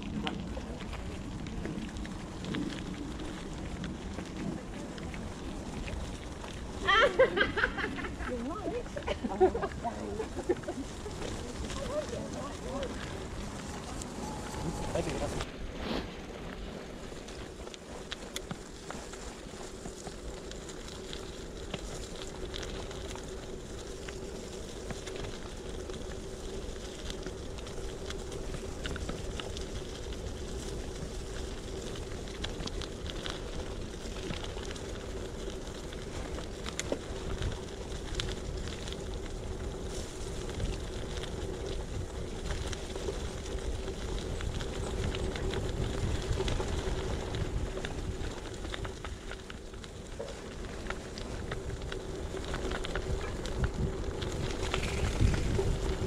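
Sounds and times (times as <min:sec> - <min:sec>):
bicycle tyres rolling on dirt: 0:00.0 - 0:56.0
leaves and twigs crackling: 0:00.0 - 0:56.0
wind rumble on microphone: 0:00.0 - 0:56.0.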